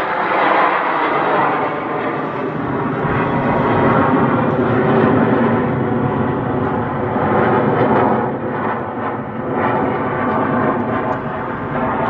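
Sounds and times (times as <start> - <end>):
fighter jets roaring: 0.0 - 12.0.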